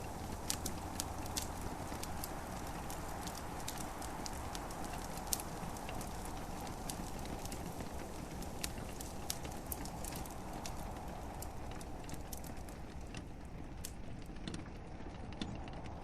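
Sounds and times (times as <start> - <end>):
sharp pops of fire: 0.0 - 14.6
gentle rain hissing: 0.0 - 16.0
wood fire crackling: 0.0 - 16.0.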